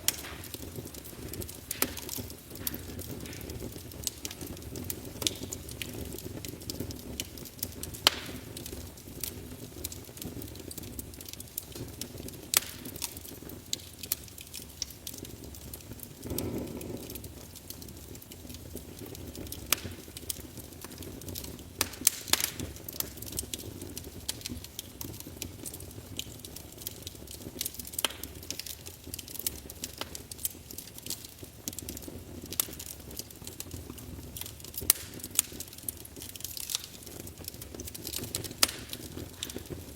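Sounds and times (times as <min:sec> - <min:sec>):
logs crackling and popping: 0:00.0 - 0:39.9
wood fire burning: 0:00.0 - 0:39.9.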